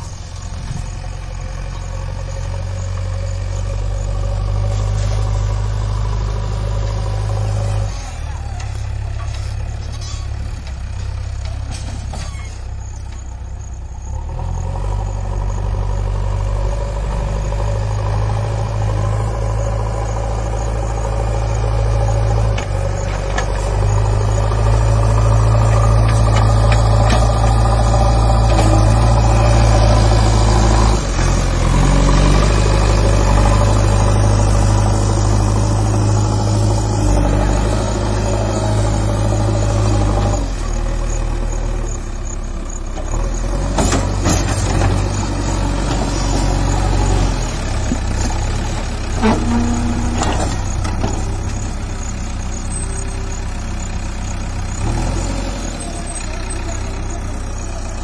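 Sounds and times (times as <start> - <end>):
backhoe diesel engine working: 0.0 - 58.0.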